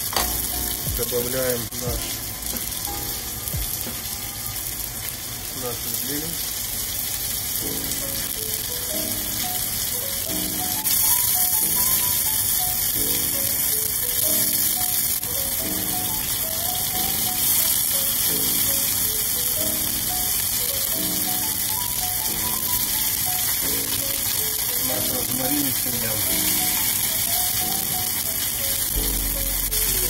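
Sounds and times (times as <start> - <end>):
background music: 0.0 - 30.0
steaks sizzling in a pan: 0.0 - 30.0.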